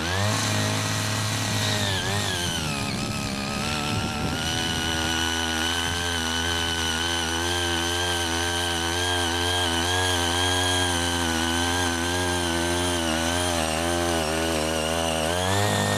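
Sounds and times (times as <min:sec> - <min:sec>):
small tiller engine running: 0:00.0 - 0:15.9.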